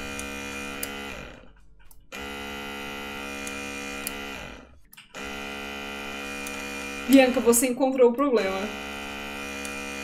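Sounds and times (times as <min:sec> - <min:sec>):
small gear motor whining: 0:00.0 - 0:01.5, 0:02.1 - 0:07.7, 0:08.5 - 0:10.0.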